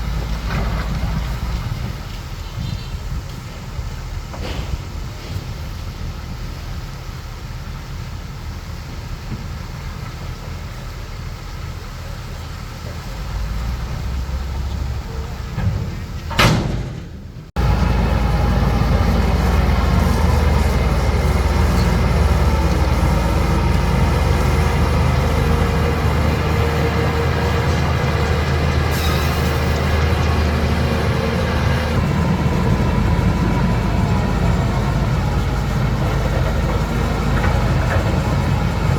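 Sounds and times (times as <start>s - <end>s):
heavy machinery diesel engine: 0.0s - 38.9s.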